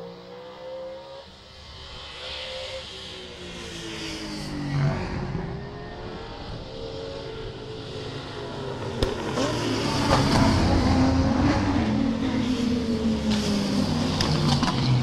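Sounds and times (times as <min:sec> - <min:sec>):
racing car engines passing: 0:00.0 - 0:15.0.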